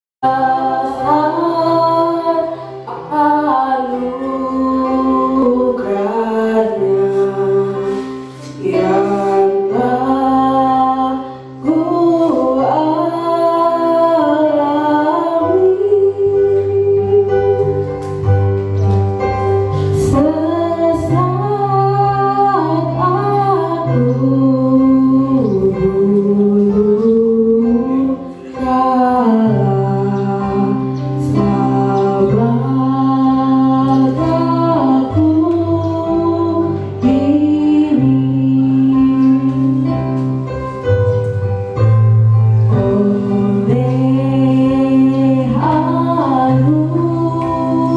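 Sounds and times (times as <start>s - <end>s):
woman singing slow melody: 0.2s - 18.8s, 19.8s - 42.0s, 42.6s - 47.9s.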